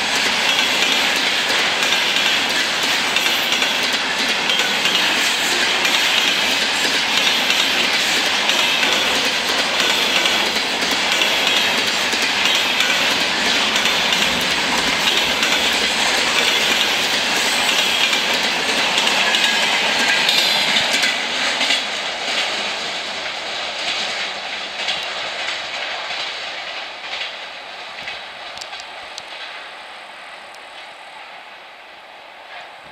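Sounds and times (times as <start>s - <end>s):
train wheels knocking over rail joints: 0.0s - 27.4s.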